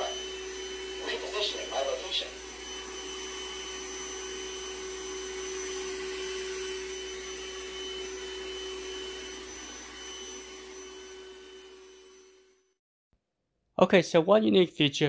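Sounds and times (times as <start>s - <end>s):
robot vacuum whirring hum: 0.0s - 12.8s.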